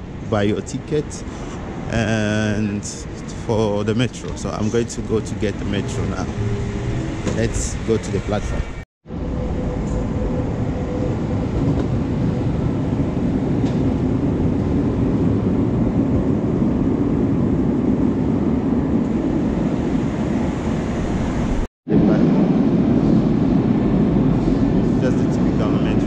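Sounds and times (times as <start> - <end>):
escalator rumbling: 0.0 - 26.0.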